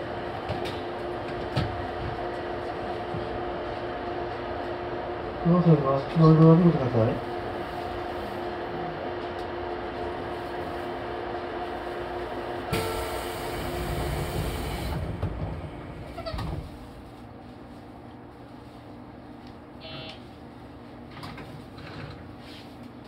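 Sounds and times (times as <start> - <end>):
train electrical hum: 0.0 - 23.0.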